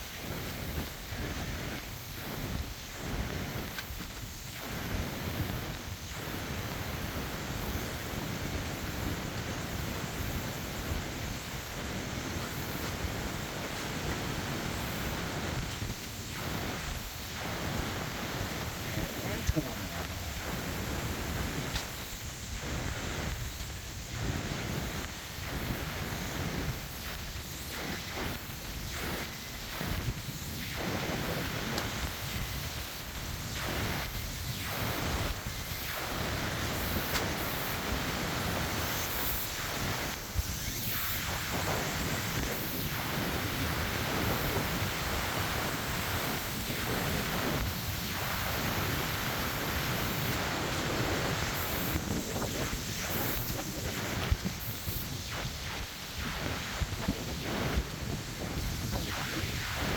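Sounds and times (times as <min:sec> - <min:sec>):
rain hissing: 0:00.0 - 0:59.9
wind buffeting microphone: 0:00.0 - 0:59.9.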